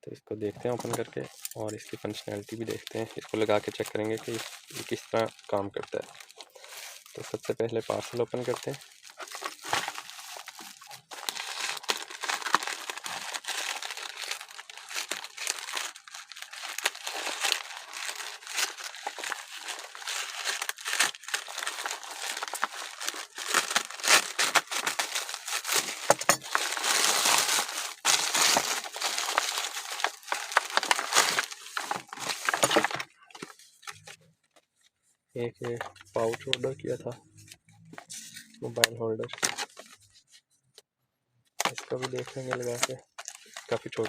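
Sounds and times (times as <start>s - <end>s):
packaging crackling and rustling: 0.6s - 34.2s, 37.5s - 40.1s, 41.6s - 44.0s.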